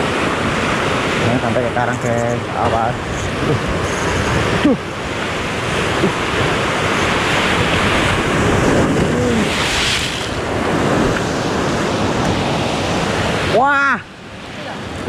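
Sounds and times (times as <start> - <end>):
wind buffeting microphone: 0.0 - 13.6
surf breaking over rocks: 0.0 - 15.0.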